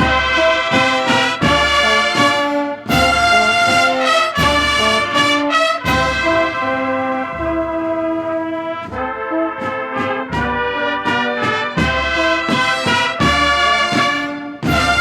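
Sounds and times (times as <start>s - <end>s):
brass band march: 0.0s - 15.0s.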